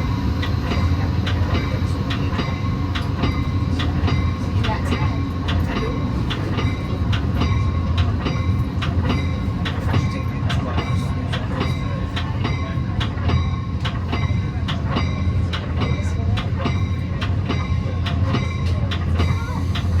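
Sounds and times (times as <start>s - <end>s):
rail clicks: 0.0s - 20.0s
train wheels rumbling on track: 0.0s - 20.0s.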